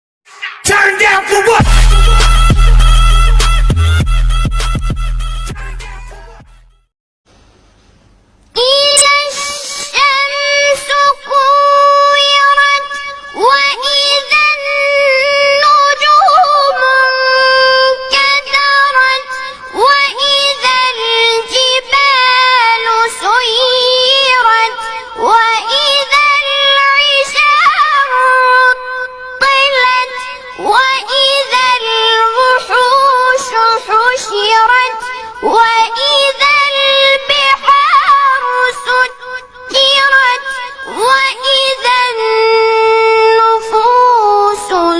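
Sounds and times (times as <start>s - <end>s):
boy reciting melodically: 8.6s - 44.9s.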